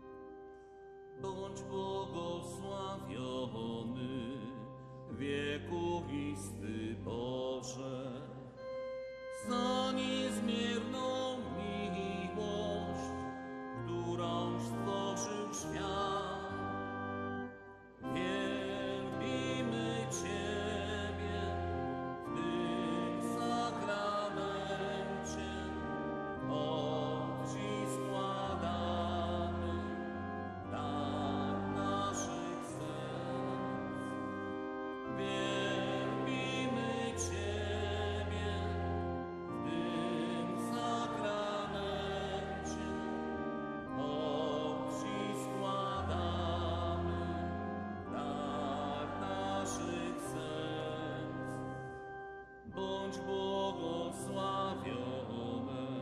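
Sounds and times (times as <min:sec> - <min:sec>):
organ-like chords: 0:00.0 - 0:56.0
hymn sung with vibrato: 0:01.2 - 0:56.0.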